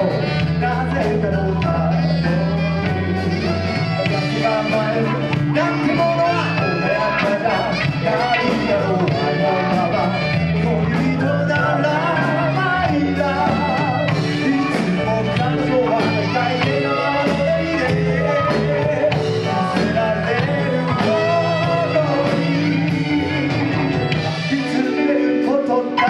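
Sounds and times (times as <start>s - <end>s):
live band playing upbeat song: 0.0s - 26.0s
person singing: 0.0s - 26.0s.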